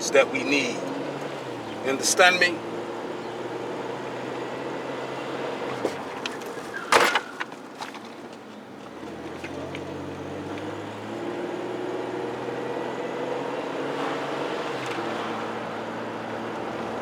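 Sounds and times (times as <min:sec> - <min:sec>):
car engine running: 0:00.0 - 0:06.9, 0:08.9 - 0:17.0.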